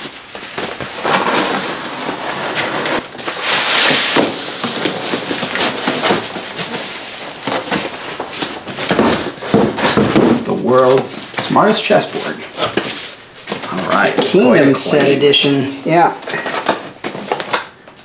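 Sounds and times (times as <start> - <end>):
cardboard scraping and rustling: 0.0 - 15.2, 16.1 - 17.6.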